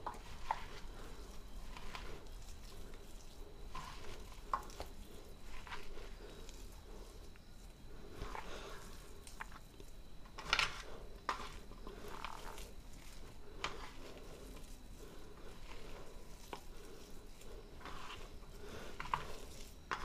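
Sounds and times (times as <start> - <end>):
hand squelching food mash: 0.0 - 20.0.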